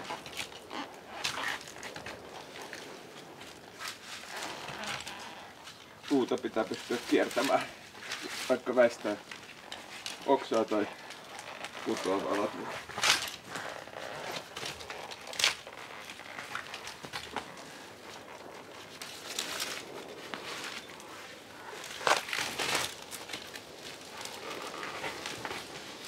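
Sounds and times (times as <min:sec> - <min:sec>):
rustling and scraping in tree: 0:00.0 - 0:26.0.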